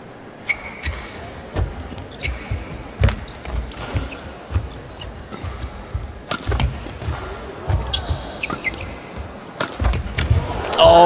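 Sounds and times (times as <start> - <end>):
shoes thudding and squeaking: 0.4 - 10.8
rackets striking shuttlecock: 0.9 - 10.8.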